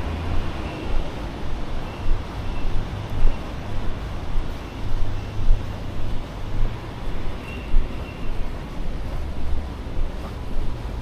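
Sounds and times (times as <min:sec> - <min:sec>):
road traffic rumble: 0:00.0 - 0:11.0
footsteps: 0:02.0 - 0:11.0.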